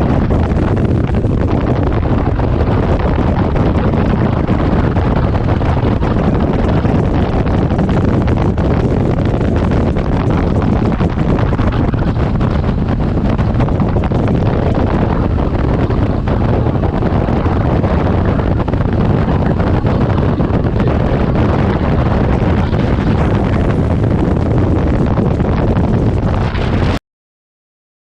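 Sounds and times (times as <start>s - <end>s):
strong wind on microphone: 0.0s - 27.0s.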